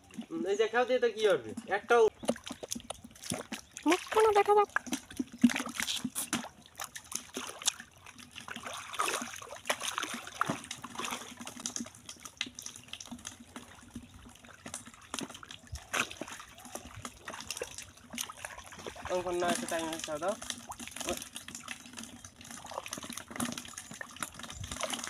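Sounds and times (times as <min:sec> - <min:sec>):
muddy water splashing: 0:00.0 - 0:25.0.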